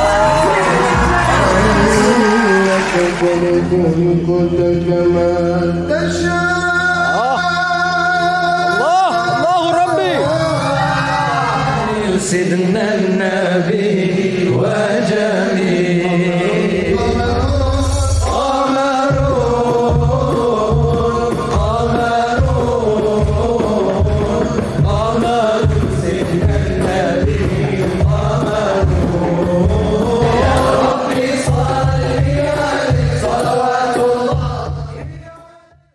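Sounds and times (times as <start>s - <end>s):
men singing in unison: 0.0s - 9.4s, 10.2s - 35.8s.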